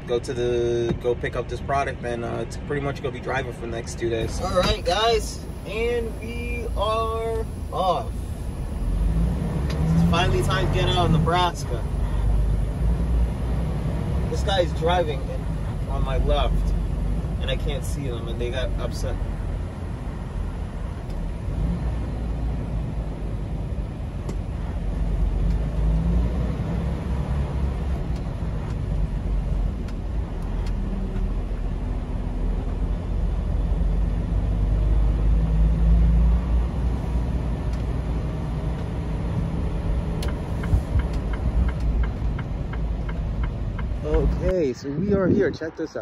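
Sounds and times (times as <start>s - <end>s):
diesel truck engine rumbling: 0.0s - 46.0s.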